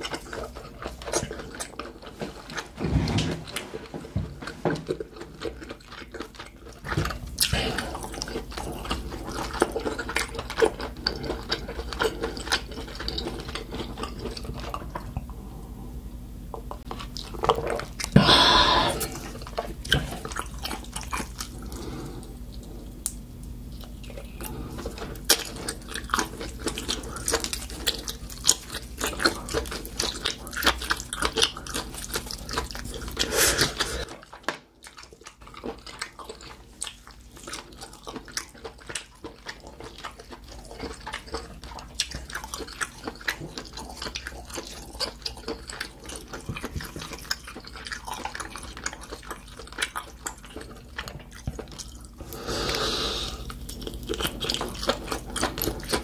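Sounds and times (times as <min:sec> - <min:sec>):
wet chewing: 0:00.0 - 0:02.8, 0:03.4 - 0:15.5, 0:16.6 - 0:56.0.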